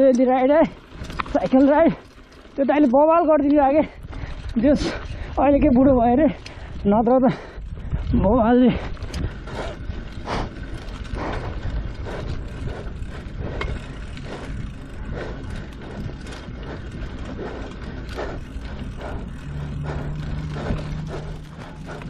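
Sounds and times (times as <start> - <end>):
bicycle drivetrain clicking: 0.0 - 22.0
wind rumble on microphone: 0.8 - 22.0.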